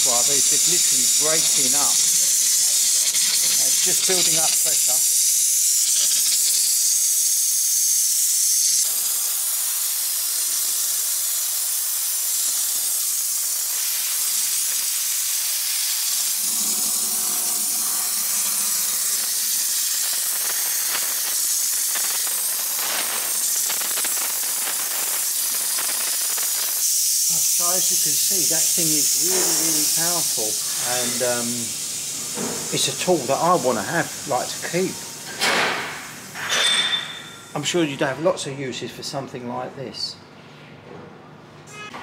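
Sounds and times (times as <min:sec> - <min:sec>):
steam jet hissing: 0:00.0 - 0:36.9.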